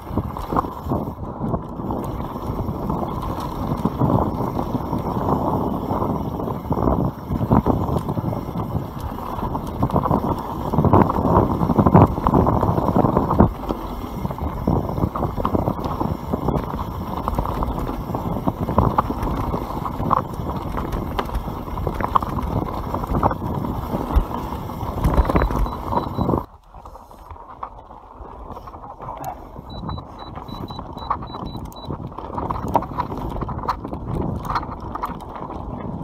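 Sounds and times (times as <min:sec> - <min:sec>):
bike tyres on dirt trail: 0:00.0 - 0:36.0
wind on microphone: 0:00.0 - 0:36.0.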